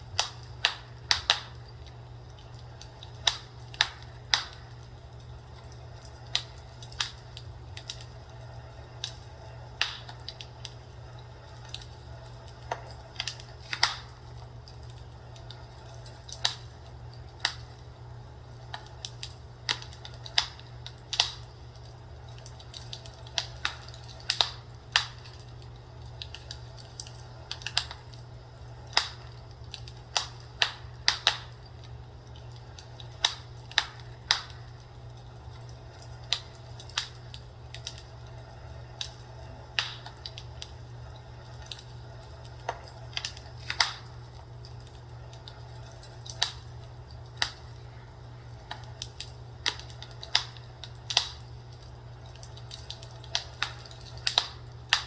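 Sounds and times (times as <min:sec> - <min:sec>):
fireplace crackling: 0:00.0 - 0:55.0
steady low hum: 0:00.0 - 0:55.0.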